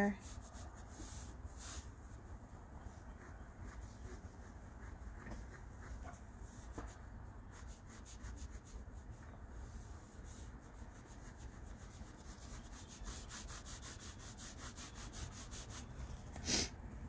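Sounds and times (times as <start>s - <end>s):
pencil scratching on paper: 0.0s - 9.2s, 10.1s - 15.9s.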